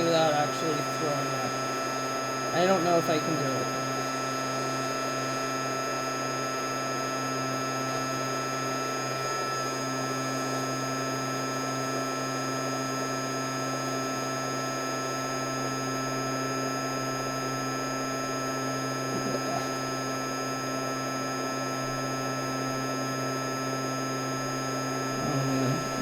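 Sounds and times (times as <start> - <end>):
fan humming and whining: 0.0 - 26.0.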